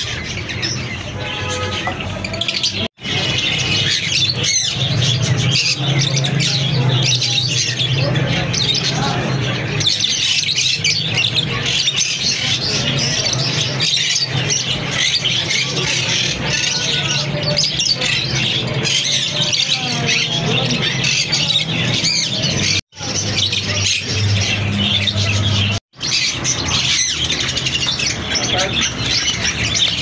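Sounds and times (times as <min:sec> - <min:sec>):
parakeets chattering and squawking: 0:00.0 - 0:30.0.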